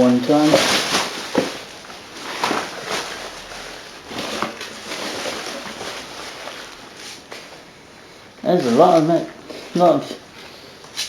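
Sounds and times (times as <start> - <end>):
boxes and packing being moved: 0.0 - 11.0.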